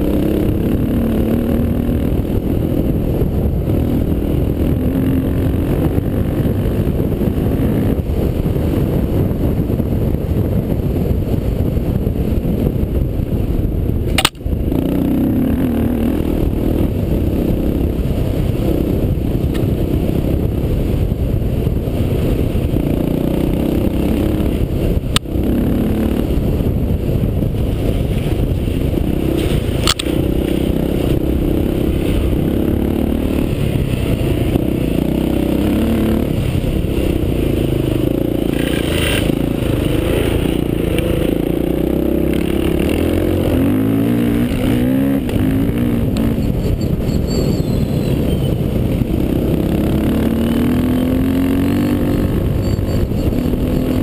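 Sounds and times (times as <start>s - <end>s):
motorcycle engine running under load: 0.0s - 54.0s.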